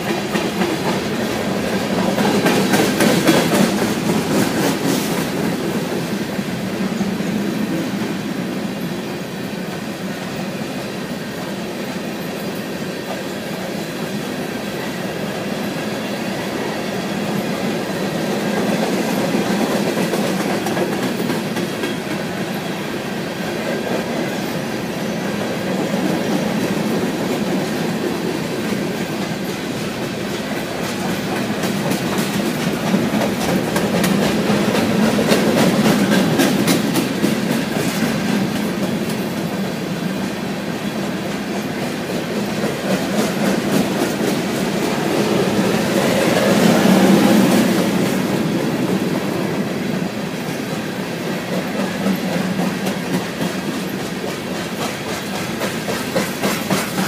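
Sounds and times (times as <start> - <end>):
train rumble: 0.0 - 57.0
train wheels clacking: 0.0 - 57.0.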